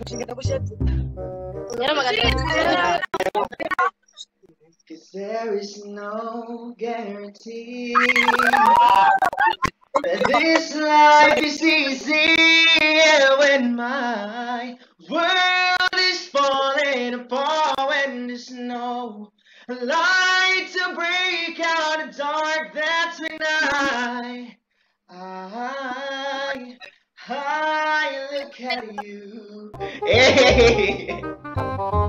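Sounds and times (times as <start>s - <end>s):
person singing unaccompanied: 1.7s - 3.9s, 5.1s - 24.5s, 25.2s - 31.3s.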